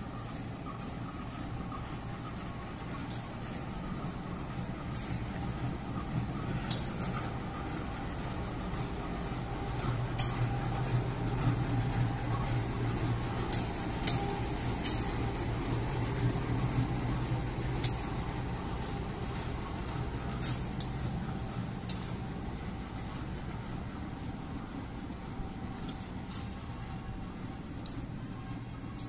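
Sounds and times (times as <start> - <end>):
locomotive engine humming: 0.0 - 29.0.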